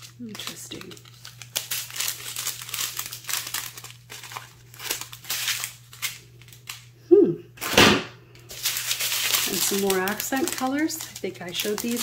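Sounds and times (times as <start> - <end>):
plastic bags crinkling: 0.0 - 6.9, 8.4 - 12.0.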